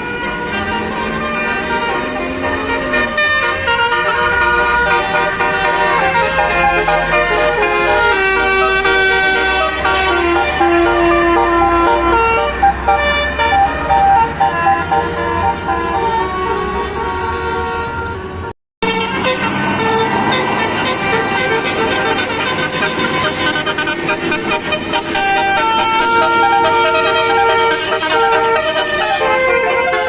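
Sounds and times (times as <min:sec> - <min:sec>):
bus engine running: 0:00.0 - 0:30.0
bus musical horn melody: 0:00.0 - 0:30.0.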